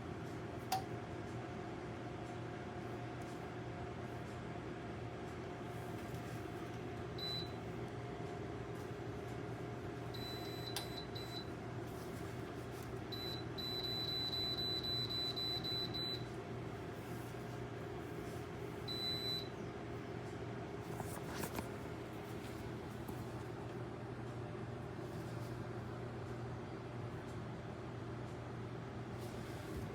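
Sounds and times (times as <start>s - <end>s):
heater fan humming: 0.0s - 29.9s.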